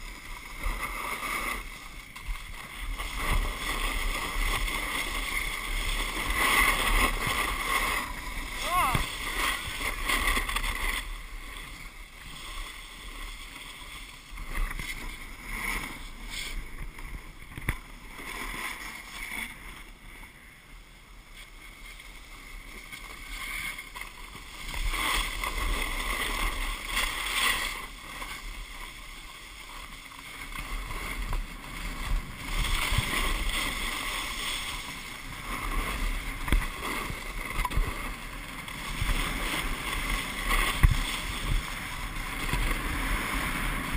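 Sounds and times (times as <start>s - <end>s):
snowboard scraping on snow: 0.0s - 43.9s.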